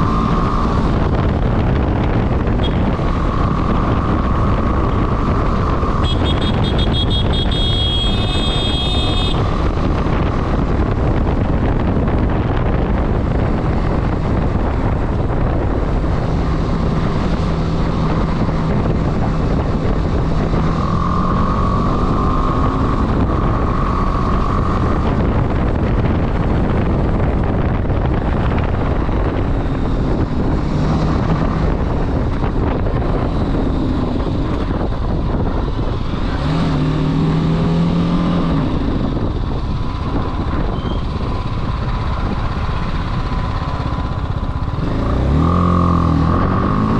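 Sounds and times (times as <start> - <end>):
motorcycle engine: 0.0 - 46.9
wind rushing over microphone: 0.0 - 46.9.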